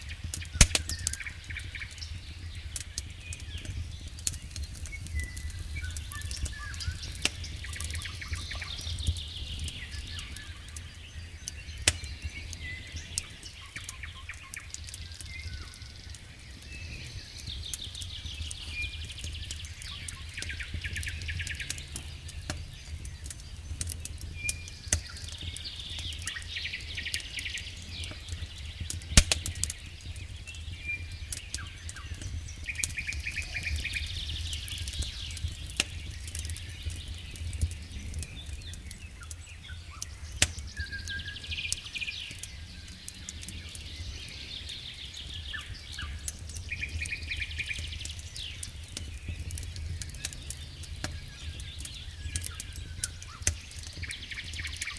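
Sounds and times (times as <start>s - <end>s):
campfire popping and crackling: 0.0s - 54.9s
songbirds singing trilled phrases: 0.0s - 54.9s.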